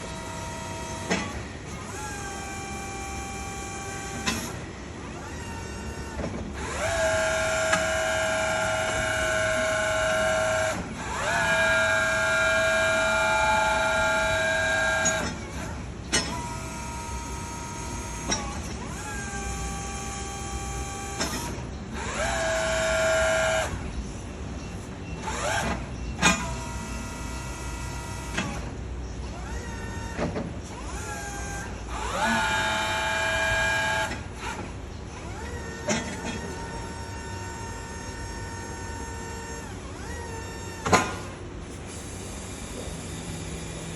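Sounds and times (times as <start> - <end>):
hydraulic pump whining: 0.0 - 43.9.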